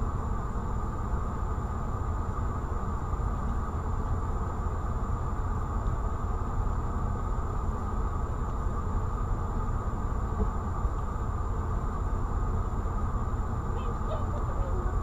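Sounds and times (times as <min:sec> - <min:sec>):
car engine idling: 0:00.0 - 0:15.0
faint high whine: 0:00.0 - 0:15.0.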